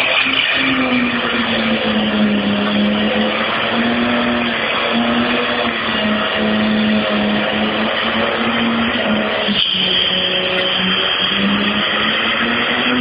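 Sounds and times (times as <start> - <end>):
car engine at high revs: 0.0 - 13.0
spinning tyres hissing: 0.0 - 13.0.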